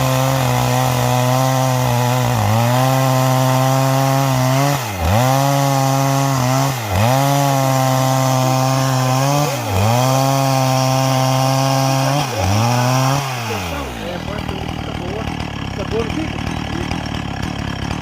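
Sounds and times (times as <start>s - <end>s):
chainsaw ripping wood: 0.0s - 18.0s.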